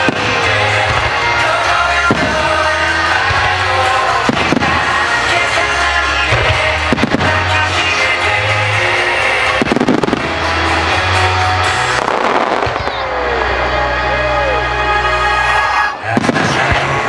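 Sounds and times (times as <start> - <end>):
fireworks bursting: 0.0 - 13.5, 16.0 - 17.0
music with heavy bass: 0.0 - 17.0.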